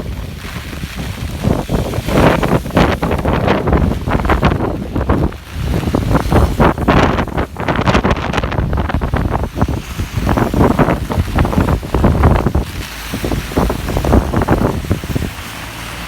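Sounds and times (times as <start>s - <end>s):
rushing wind roar: 0.0s - 16.0s
wind gusts buffeting microphone: 0.0s - 16.0s.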